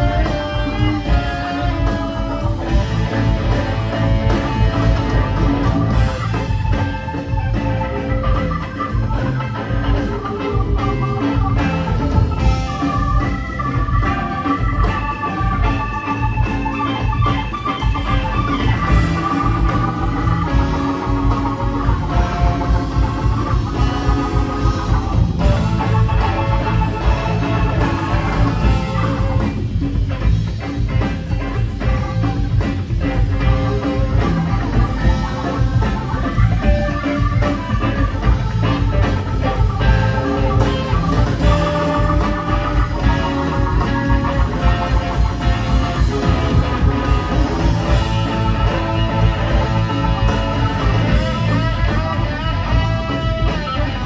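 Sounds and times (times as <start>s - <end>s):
bass: 0.0s - 54.0s
electric guitars: 0.0s - 54.0s
organ-toned keyboard: 0.0s - 54.0s
rock band playing: 0.0s - 54.0s
steady drum beat: 0.0s - 54.0s.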